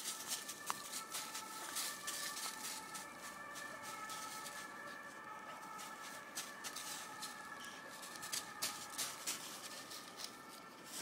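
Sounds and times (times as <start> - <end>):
footsteps through dry leaves: 0.0 - 11.0.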